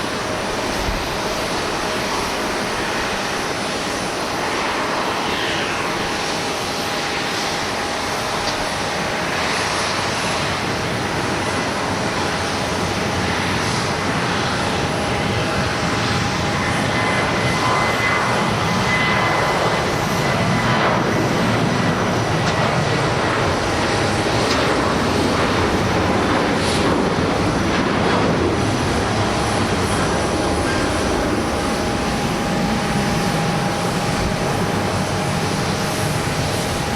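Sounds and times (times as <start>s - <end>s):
jet engines roaring: 0.0s - 36.9s.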